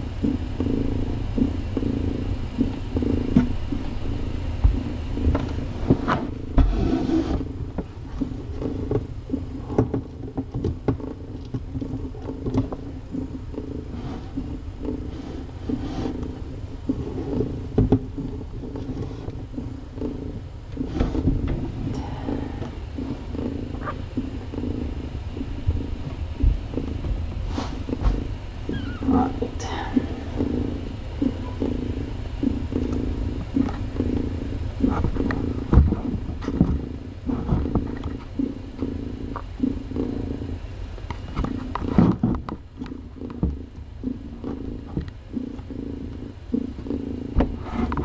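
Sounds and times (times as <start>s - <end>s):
cat purring: 0.0s - 48.0s.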